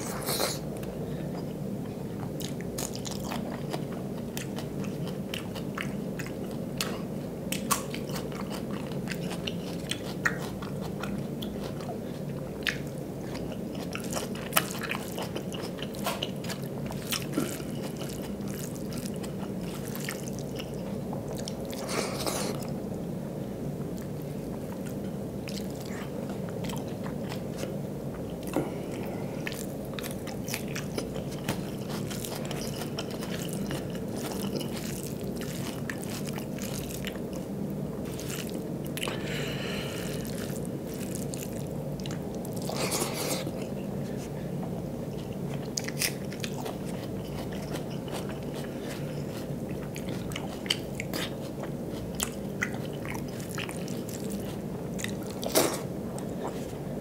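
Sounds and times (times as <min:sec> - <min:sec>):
man chewing with lip smacks: 0:00.0 - 0:22.8, 0:23.8 - 0:57.0
steady low hum: 0:00.0 - 0:57.0.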